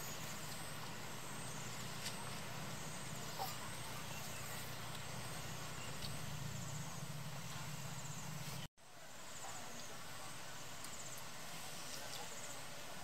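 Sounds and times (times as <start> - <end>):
low constant hum: 0.0 - 13.0.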